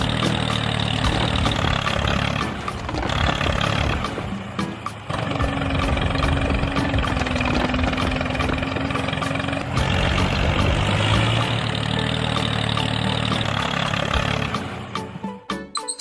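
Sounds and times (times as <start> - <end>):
deep engine drone: 0.0 - 15.3
engine humming: 0.0 - 15.7.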